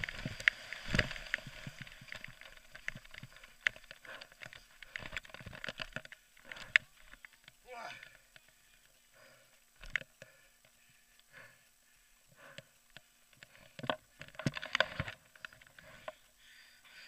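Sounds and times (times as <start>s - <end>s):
mountain bike rattling: 0.0s - 11.5s, 12.6s - 16.4s.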